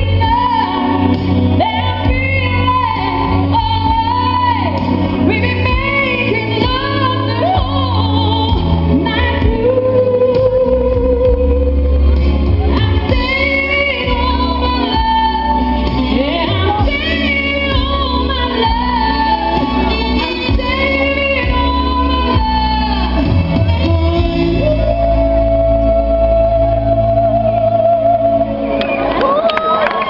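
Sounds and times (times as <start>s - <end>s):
woman singing into a microphone: 0.0s - 28.8s
amplified music with heavy bass: 0.0s - 29.2s.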